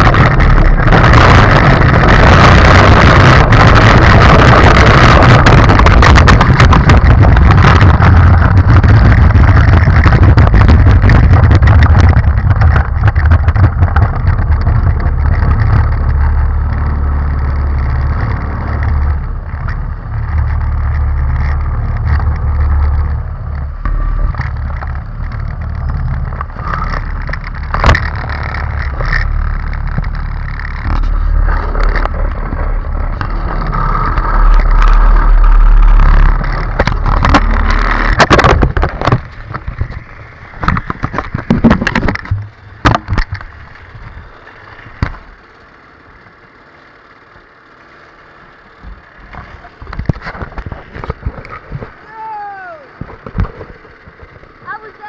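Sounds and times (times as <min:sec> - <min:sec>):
go-kart engine running: 0:00.0 - 0:55.0
kart frame rattling: 0:00.0 - 0:55.0.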